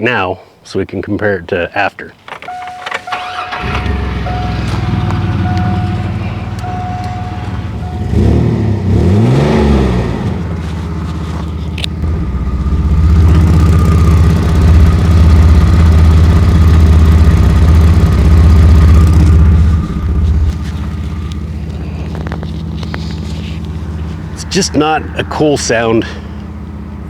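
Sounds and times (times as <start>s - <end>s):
car engine revving: 2.6s - 27.0s.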